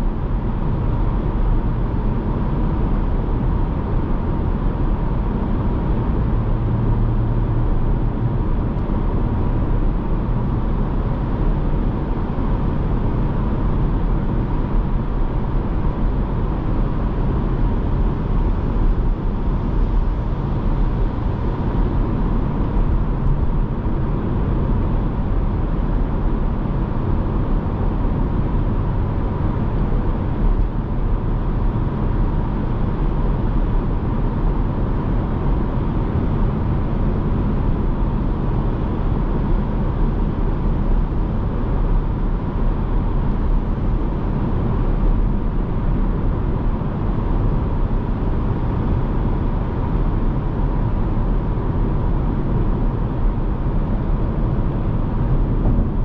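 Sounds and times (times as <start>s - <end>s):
diesel engine: 0.0s - 56.0s
wind noise: 0.0s - 56.0s.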